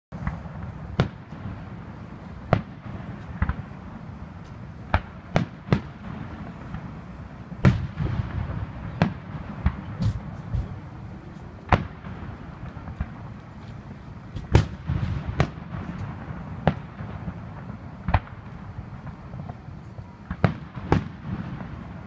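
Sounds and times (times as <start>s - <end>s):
firework shells booming: 0.1s - 22.0s
steady low rumble: 0.1s - 22.0s.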